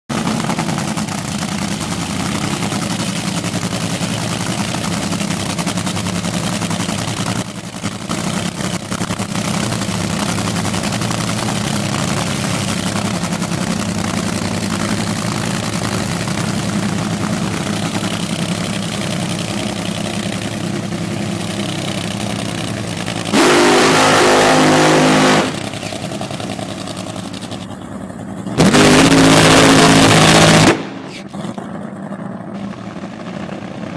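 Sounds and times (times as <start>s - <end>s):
dragster engine idling: 0.1s - 33.9s
loud full-throttle engine blasts: 0.1s - 33.9s.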